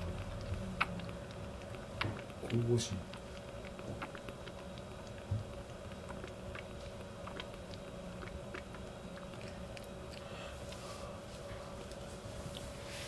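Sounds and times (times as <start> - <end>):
kitten suckling wet clicks: 0.0 - 10.8.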